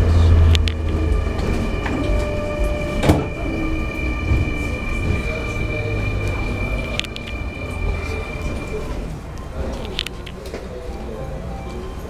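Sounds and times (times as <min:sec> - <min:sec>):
electric train hum with high tone: 0:00.0 - 0:12.0.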